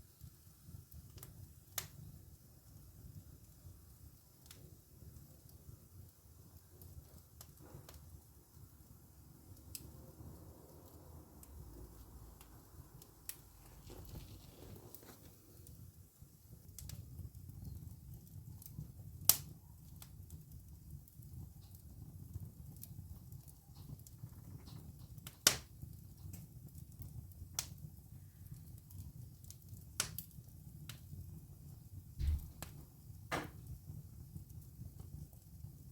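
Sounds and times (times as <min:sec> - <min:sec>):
fire crackling and popping: 0:00.0 - 0:35.9
wood fire low rumble: 0:00.0 - 0:35.9.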